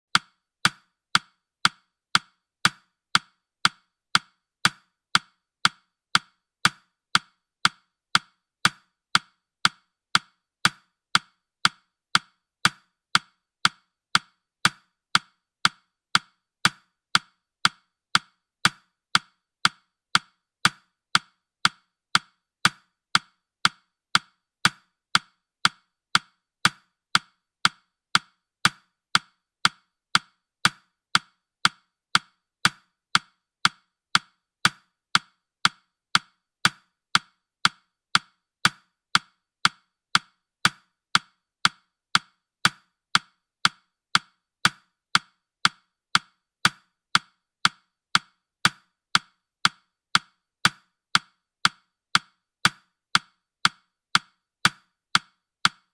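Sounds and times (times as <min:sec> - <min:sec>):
clock ticking: 0:00.1 - 0:55.9.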